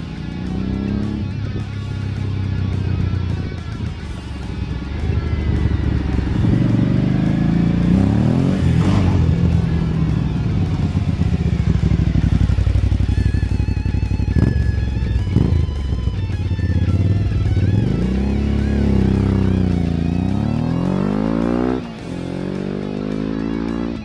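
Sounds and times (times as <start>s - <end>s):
motorcycle engine revving: 0.0s - 24.0s
music: 0.0s - 24.0s.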